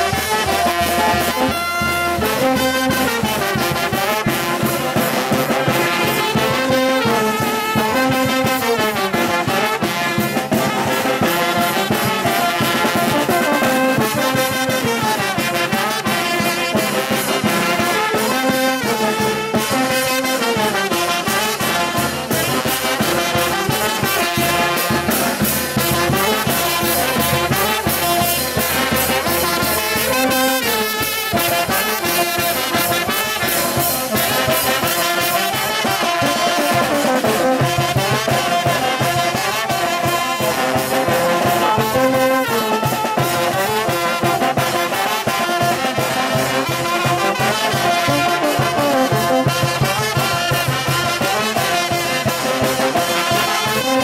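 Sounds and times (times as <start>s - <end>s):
saxophones and brass horns: 0.0s - 54.0s
snare and bass drum beat: 0.0s - 54.0s.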